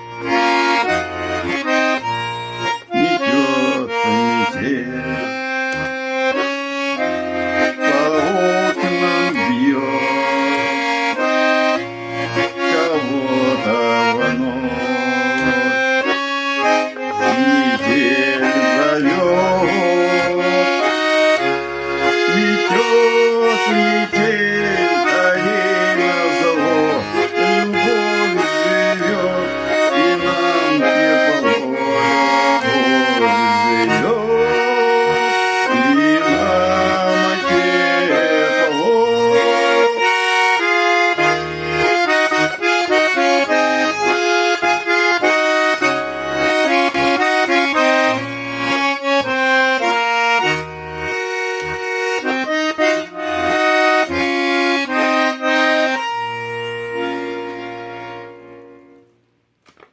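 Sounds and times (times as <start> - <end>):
button accordion folk tune: 0.0 - 59.9.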